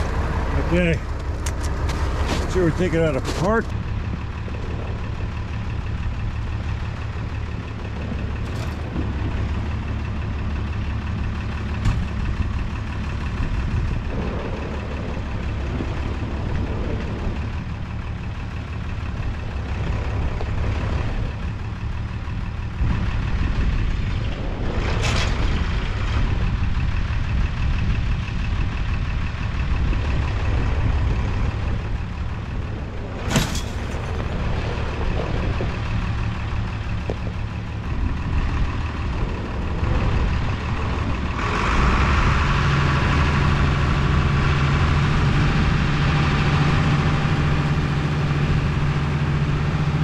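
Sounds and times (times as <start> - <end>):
heavy engine idling: 0.0 - 50.0.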